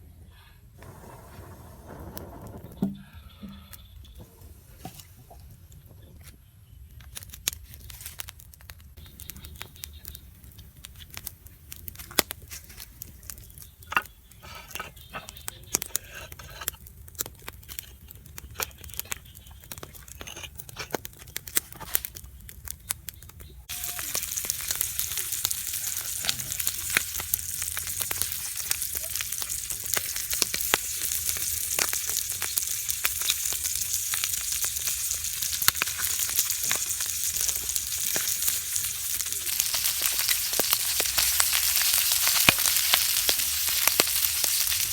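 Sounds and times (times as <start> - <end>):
eel sizzling on hot tile: 9.0 - 44.9.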